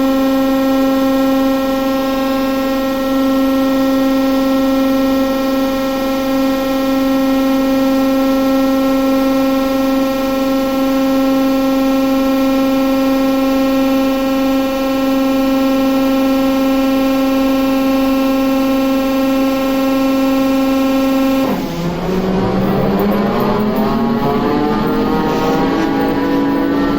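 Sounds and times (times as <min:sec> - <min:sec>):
diesel locomotive engine whine: 0:00.0 - 0:26.9.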